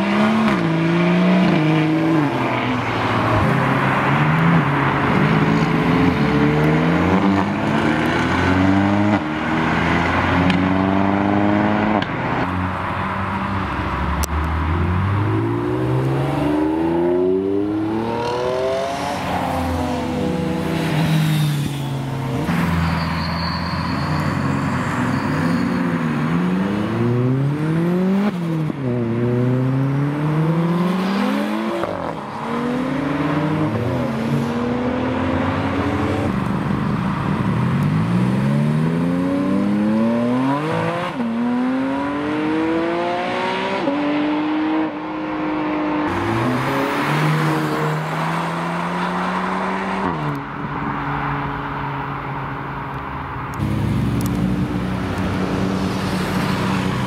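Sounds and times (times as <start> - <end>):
cars accelerating hard: 0.0 - 22.8, 24.2 - 50.6.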